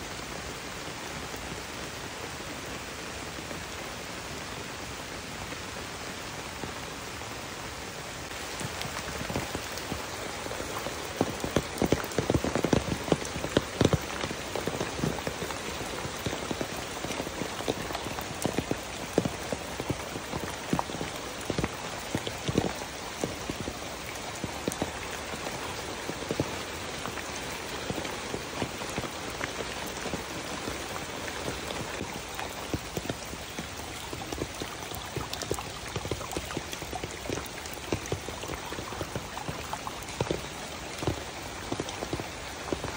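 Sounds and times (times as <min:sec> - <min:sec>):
rain pattering on foliage: 0:00.0 - 0:42.9.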